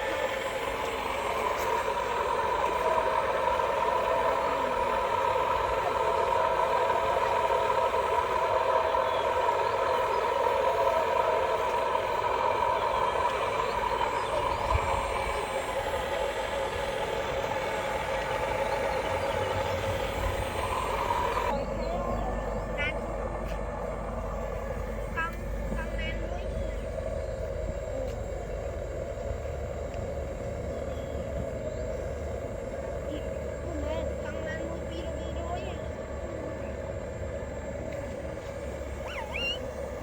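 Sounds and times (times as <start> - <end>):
machine humming: 0.0 - 40.0.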